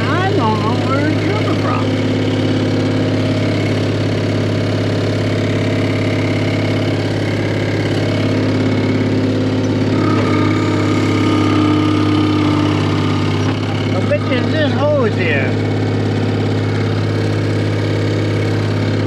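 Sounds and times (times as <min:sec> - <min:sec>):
skid steer engine idling: 0:00.0 - 0:19.0.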